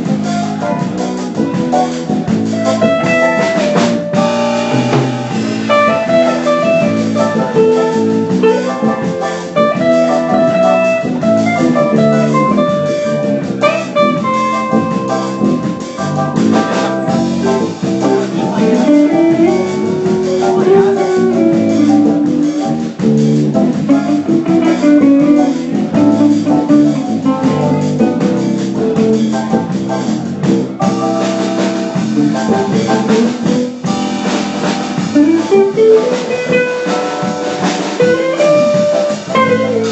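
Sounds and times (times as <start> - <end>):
drum kit: 0.0 - 39.9
guitar led band tune: 0.0 - 39.9.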